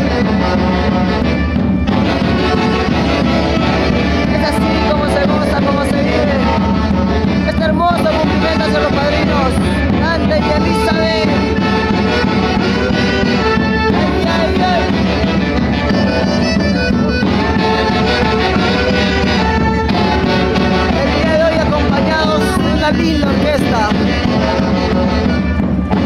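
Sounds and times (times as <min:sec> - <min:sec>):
folk orchestra playing: 0:00.0 - 0:26.0
horns playing melody: 0:00.0 - 0:26.0.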